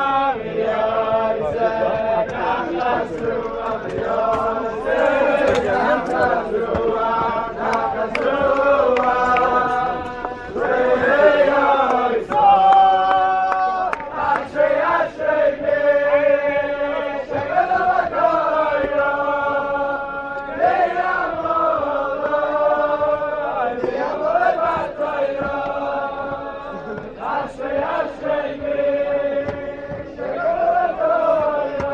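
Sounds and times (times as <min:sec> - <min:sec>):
men singing together: 0:00.0 - 0:31.9.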